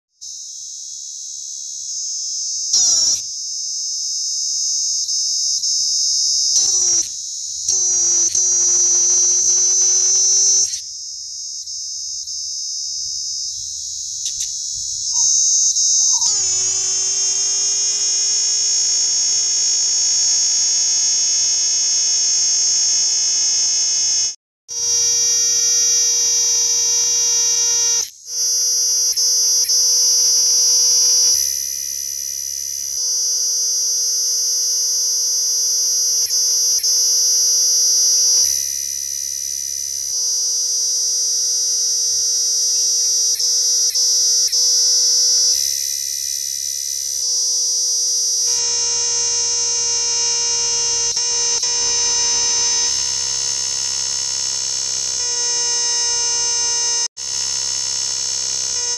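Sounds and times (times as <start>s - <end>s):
cicada buzzing: 0.2s - 58.9s.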